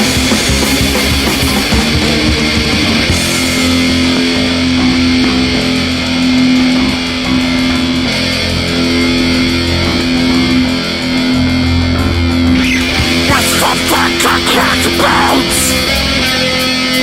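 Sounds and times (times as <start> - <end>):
distorted electric guitar chords: 0.0 - 17.0
drums and cymbals: 0.0 - 17.0.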